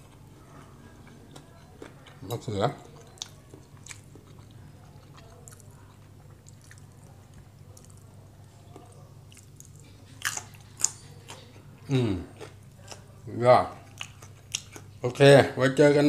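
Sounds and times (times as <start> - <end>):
person chewing food softly: 0.0 - 15.2.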